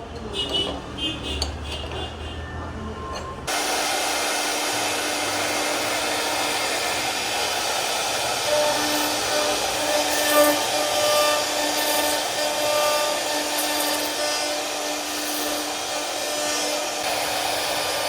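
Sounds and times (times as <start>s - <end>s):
router spindle cutting wood: 3.5s - 18.0s.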